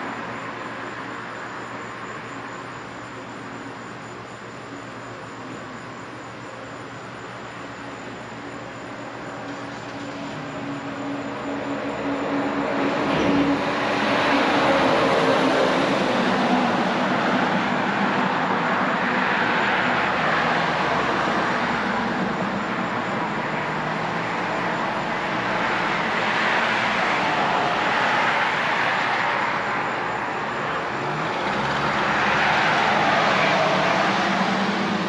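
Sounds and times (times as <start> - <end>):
road traffic driving by: 0.0 - 35.0.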